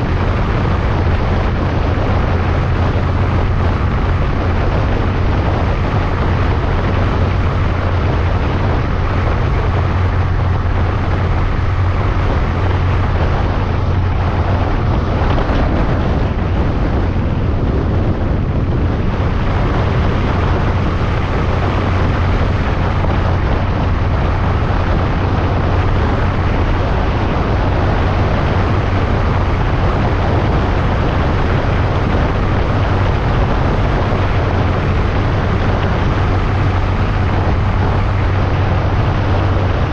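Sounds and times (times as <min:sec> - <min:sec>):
motorcycle engine droning: 0:00.0 - 0:39.9
wind rush on microphone: 0:00.0 - 0:39.9.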